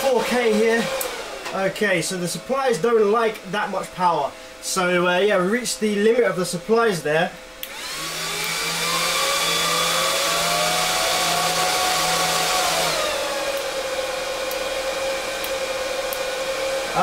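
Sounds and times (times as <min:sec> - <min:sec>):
cooling fans whining: 0:00.0 - 0:17.0
low electrical buzz: 0:00.0 - 0:17.0.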